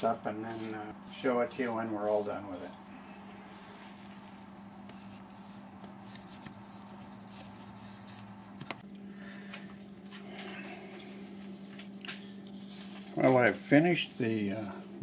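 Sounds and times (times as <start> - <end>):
low steady hum: 0.0 - 15.0
rustling and handling noises: 0.0 - 15.0.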